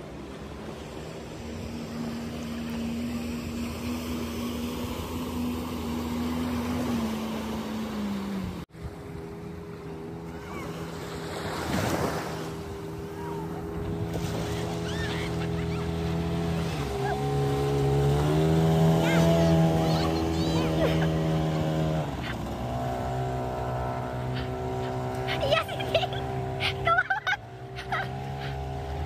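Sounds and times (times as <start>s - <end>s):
jet ski engine: 0.0s - 29.0s
small waves washing ashore: 0.0s - 29.0s.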